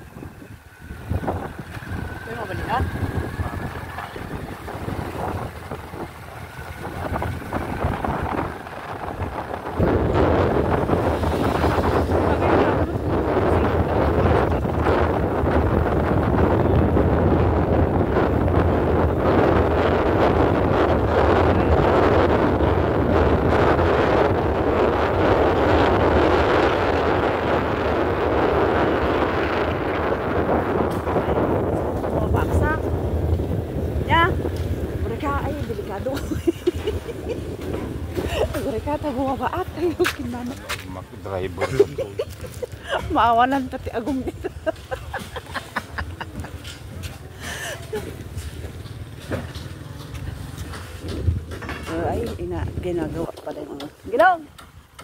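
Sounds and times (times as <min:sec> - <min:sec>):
low road rumble: 0:00.0 - 0:55.0
moving vehicle running noise: 0:00.0 - 0:55.0
wind buffeting microphone: 0:00.0 - 0:55.0.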